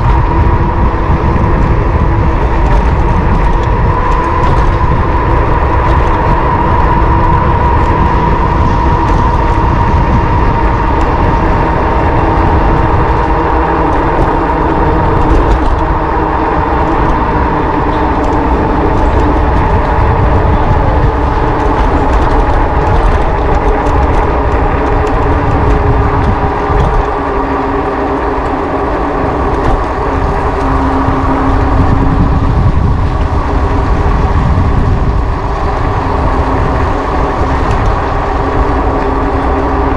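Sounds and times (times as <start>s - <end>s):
electric motor whine: 0.0s - 39.9s
wind buffeting microphone: 0.0s - 39.9s.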